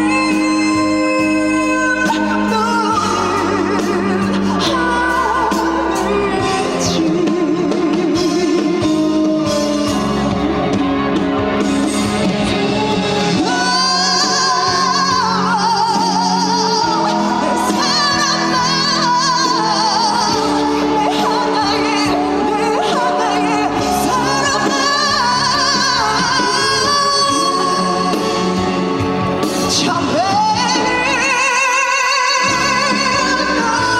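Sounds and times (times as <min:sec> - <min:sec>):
woman singing with vibrato: 0:00.0 - 0:10.3, 0:12.4 - 0:33.9
instrumental accompaniment: 0:00.0 - 0:33.9.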